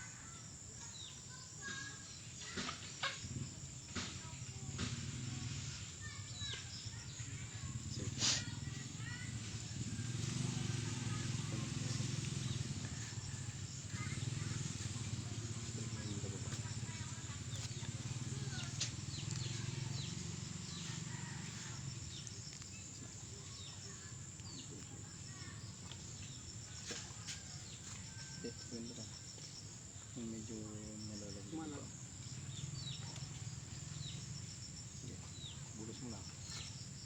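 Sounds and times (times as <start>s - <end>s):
high insect trill: 0.0s - 37.0s.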